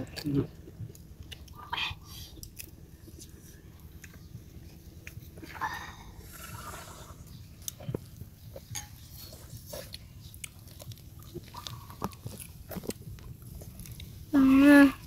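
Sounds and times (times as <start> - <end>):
child chewing and smacking: 0.0 - 15.0.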